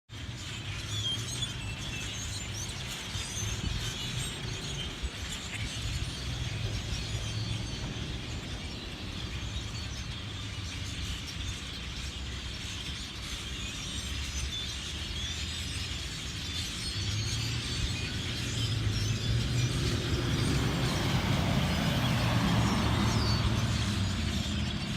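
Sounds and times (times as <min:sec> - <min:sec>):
flock of birds chattering: 0:00.2 - 0:24.9.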